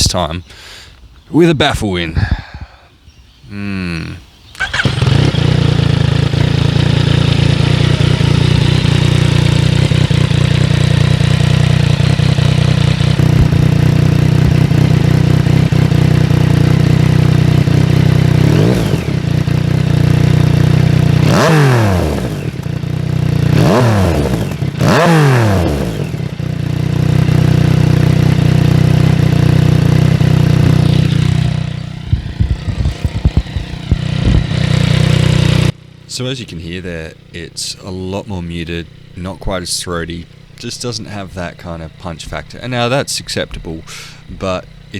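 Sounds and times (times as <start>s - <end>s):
motorcycle engine idling and revving: 3.7s - 44.9s.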